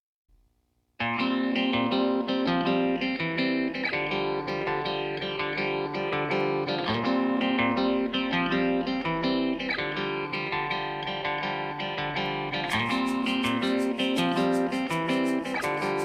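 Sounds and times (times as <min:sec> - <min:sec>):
plucked guitar music: 0:01.0 - 0:16.0.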